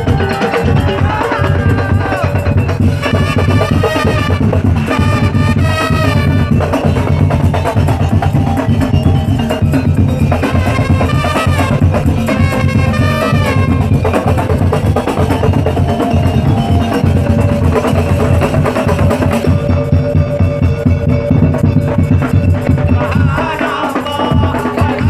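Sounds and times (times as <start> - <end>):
driving drum beat: 0.0 - 25.0
sliding melodic line: 0.1 - 23.4.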